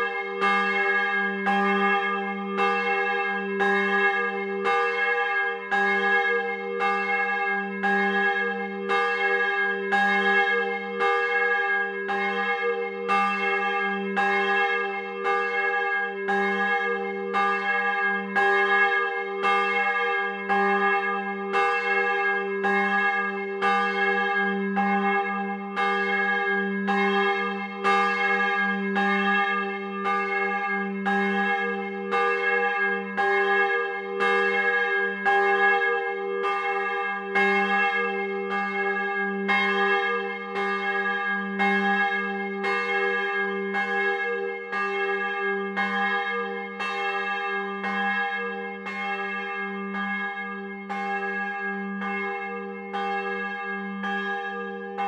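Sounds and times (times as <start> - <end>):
church bell ringing: 0.0 - 55.0.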